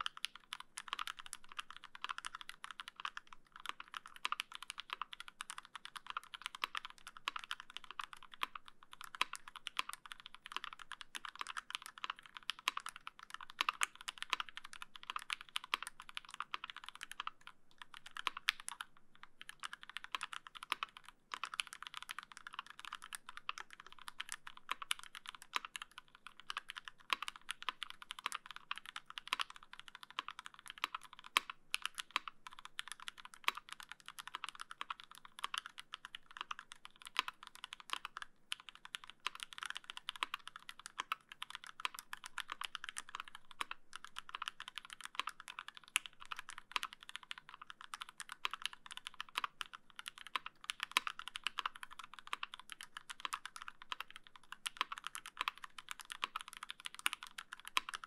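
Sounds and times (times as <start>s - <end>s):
fast typing on mechanical keyboard: 0.0s - 58.0s.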